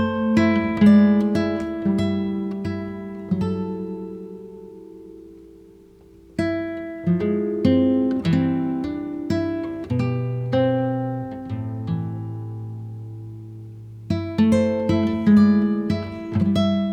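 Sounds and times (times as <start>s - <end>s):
acoustic guitar music: 0.0s - 16.9s.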